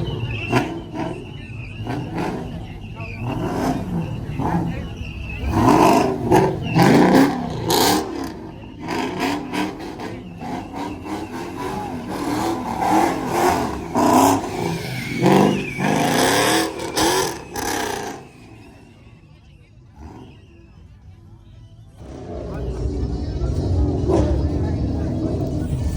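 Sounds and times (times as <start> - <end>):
car engine revving: 0.0 - 21.2, 21.9 - 25.9.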